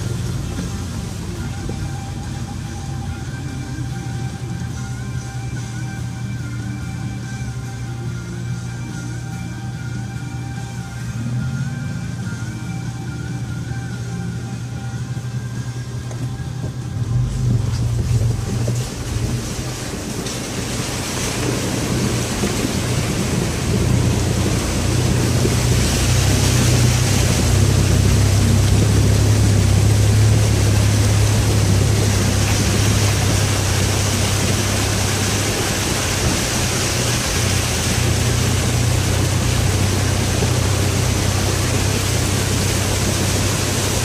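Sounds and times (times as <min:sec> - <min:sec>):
truck engine droning: 0:00.0 - 0:44.0
water sloshing and splashing: 0:00.0 - 0:44.0.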